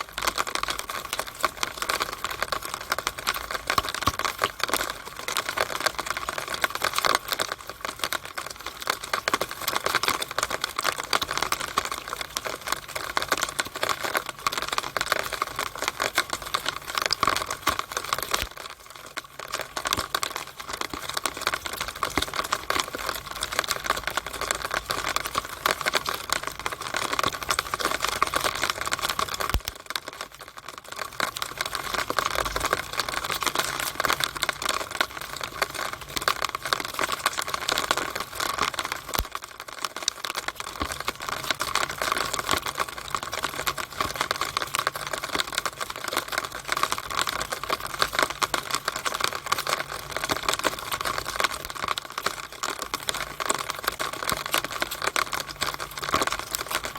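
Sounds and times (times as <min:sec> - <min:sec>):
rainwater running down a drainpipe: 0:00.0 - 0:56.9.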